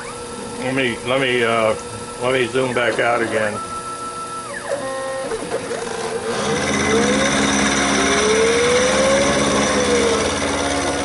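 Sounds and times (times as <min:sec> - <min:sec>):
axis drive whine: 0:00.0 - 0:11.0
milling machine cutting metal: 0:01.4 - 0:11.0.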